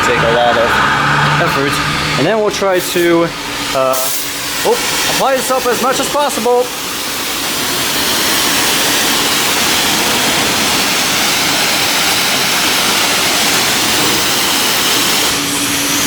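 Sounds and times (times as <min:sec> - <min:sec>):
high-pressure water jet hissing: 0:00.1 - 0:16.0.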